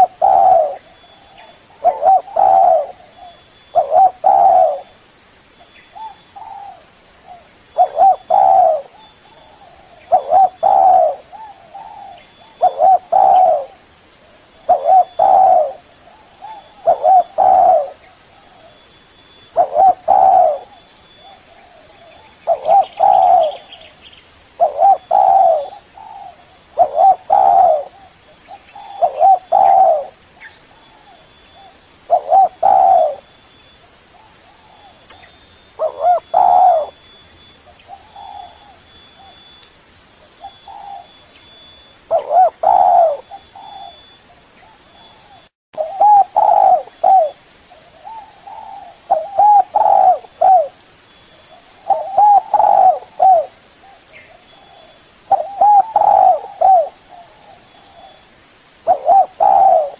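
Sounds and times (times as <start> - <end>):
dove cooing: 0.0 - 5.0, 5.9 - 39.6, 40.3 - 50.8, 51.5 - 59.9.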